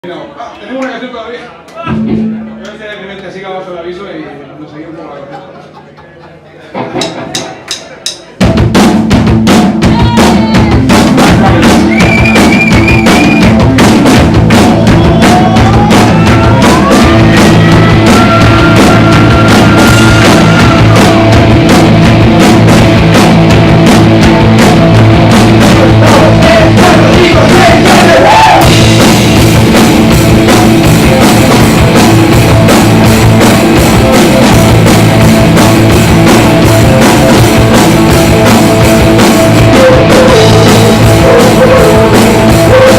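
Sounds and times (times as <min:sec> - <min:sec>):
live rock band playing: 0:01.7 - 0:02.9, 0:06.7 - 0:42.9
drum kit with bass drum: 0:06.8 - 0:42.9.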